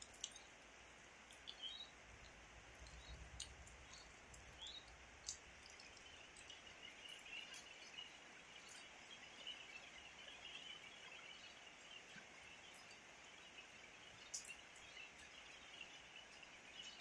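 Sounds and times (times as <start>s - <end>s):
light rain hiss: 0.0s - 17.0s
sharp drip ticks: 0.0s - 17.0s.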